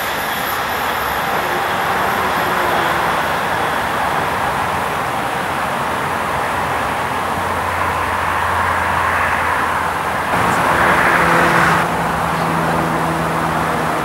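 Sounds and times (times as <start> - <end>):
diesel locomotive engine hum: 0.0 - 14.0
train running round a curve: 0.0 - 14.0.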